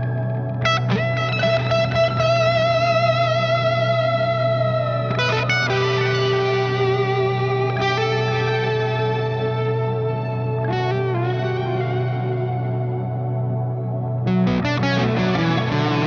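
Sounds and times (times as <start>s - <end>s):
electric guitar with delay: 0.0s - 16.0s
steady low drone: 0.0s - 16.0s.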